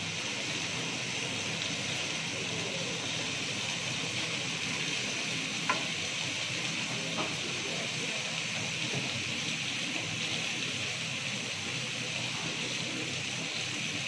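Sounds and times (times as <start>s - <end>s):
masala sizzling in hot oil: 0.0s - 14.0s.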